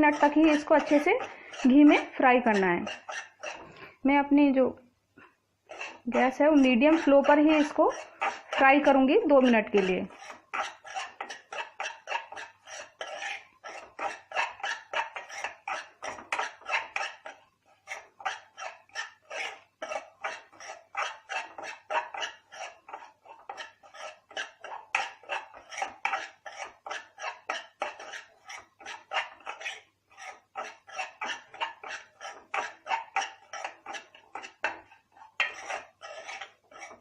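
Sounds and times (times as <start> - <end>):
metal spatula scraping a pan: 0.0 - 4.6, 5.2 - 37.0.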